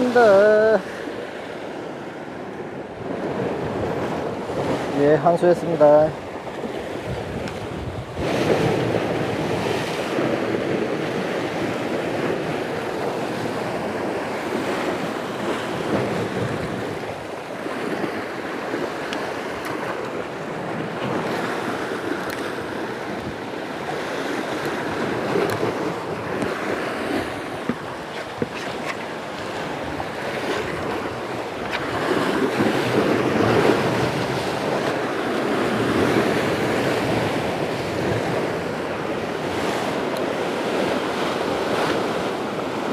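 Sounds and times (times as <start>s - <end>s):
waves breaking on rocks: 0.0s - 42.9s
wind on microphone: 0.0s - 42.9s.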